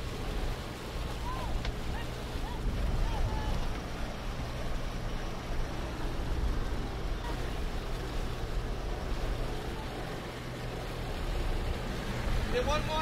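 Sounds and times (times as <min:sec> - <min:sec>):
ocean water washing: 0:00.0 - 0:13.0
wind rumbling on microphone: 0:00.0 - 0:13.0.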